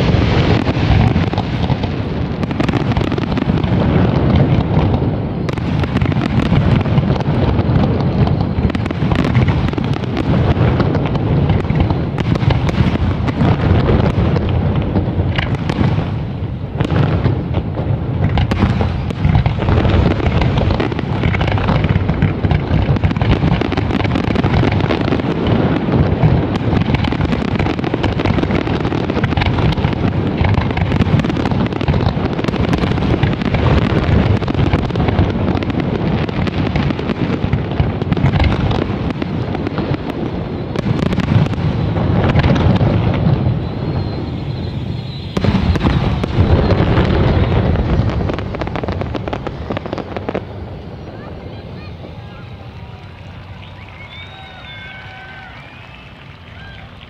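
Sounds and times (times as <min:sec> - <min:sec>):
fireworks bursts and crackle: 0:00.0 - 0:57.0.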